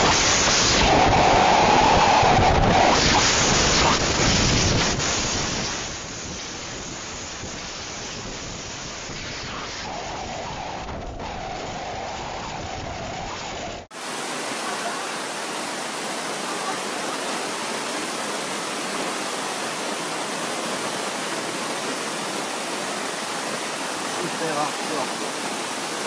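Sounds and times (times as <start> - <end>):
rain and water hissing: 0.0 - 26.0.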